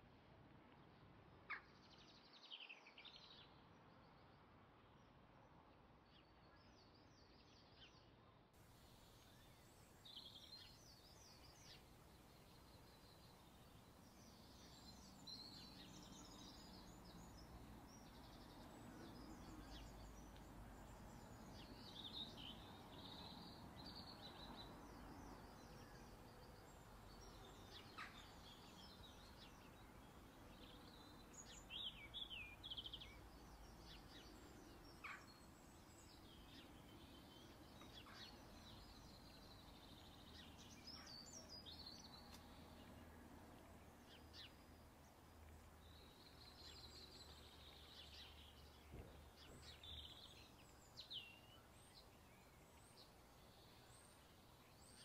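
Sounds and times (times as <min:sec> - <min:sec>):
faint background hiss: 0:08.5 - 0:55.0
small birds chirping: 0:08.7 - 0:55.0.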